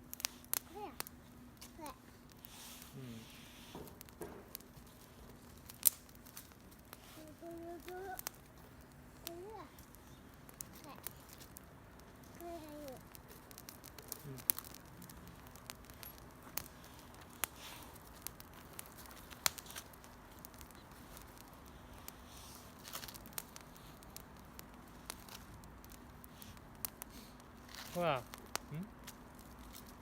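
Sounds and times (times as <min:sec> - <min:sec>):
campfire crackling: 0:00.0 - 0:30.0
sharp pops from burning sticks: 0:00.0 - 0:30.0.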